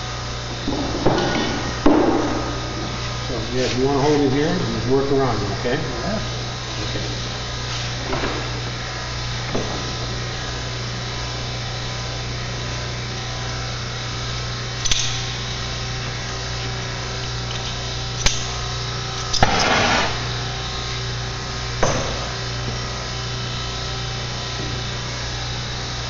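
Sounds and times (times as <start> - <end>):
torch flame hissing: 0.0 - 13.2, 14.0 - 25.3.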